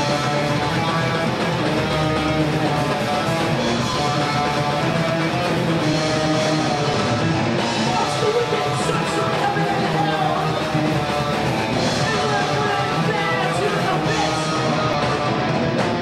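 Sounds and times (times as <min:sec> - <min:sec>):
metal band playing live: 0:00.0 - 0:16.0.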